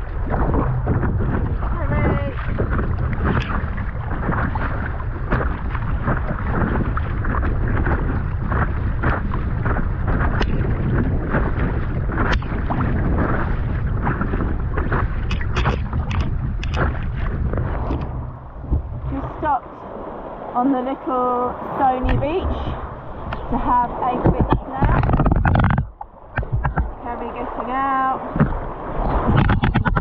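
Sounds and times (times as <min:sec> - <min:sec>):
lake water lapping: 0:00.0 - 0:30.0
wind buffeting microphone: 0:00.0 - 0:30.0.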